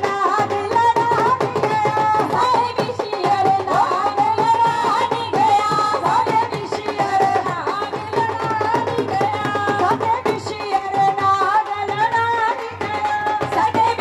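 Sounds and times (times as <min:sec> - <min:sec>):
fast dhol drum beat: 0:00.0 - 0:14.0
women singing folk song: 0:00.0 - 0:14.0.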